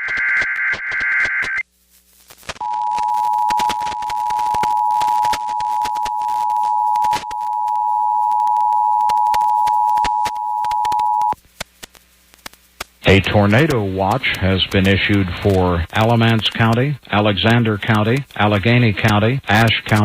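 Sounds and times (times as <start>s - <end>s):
crackling clicks: 0.0s - 20.0s.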